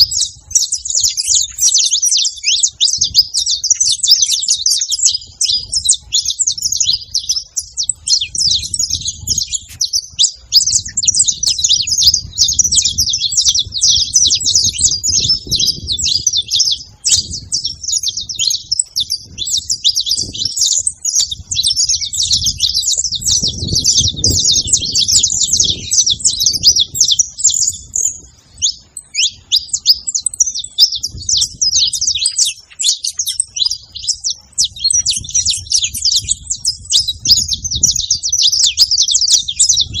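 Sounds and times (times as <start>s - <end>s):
flock of finches chirping: 0.0s - 40.0s.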